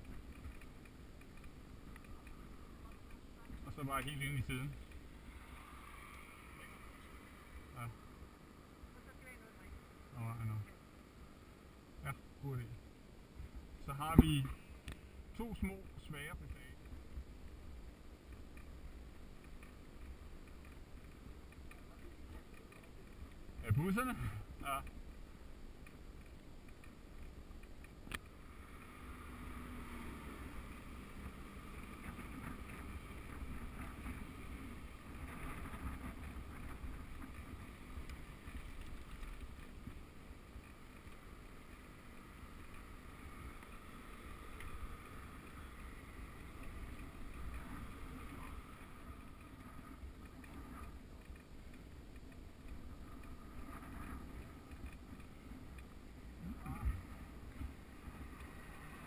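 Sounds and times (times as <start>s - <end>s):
bicycle road noise: 0.0s - 59.0s.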